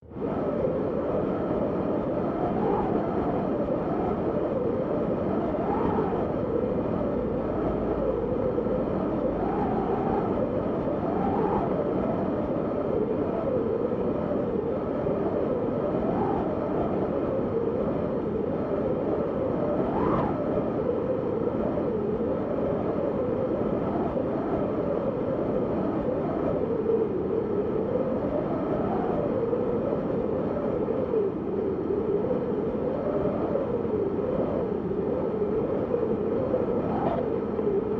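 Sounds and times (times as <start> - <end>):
wind rushing with low howl: 0.0 - 37.9.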